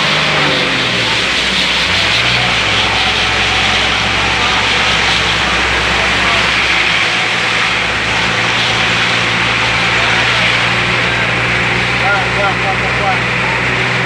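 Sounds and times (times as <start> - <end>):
bus engine humming: 0.0 - 14.0
road noise: 0.0 - 14.0.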